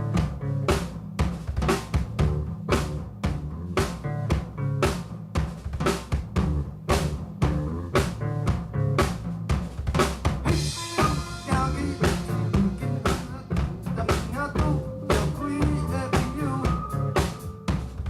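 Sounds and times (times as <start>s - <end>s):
bass and band instruments: 0.0s - 18.0s
drum kit beat: 0.0s - 18.0s.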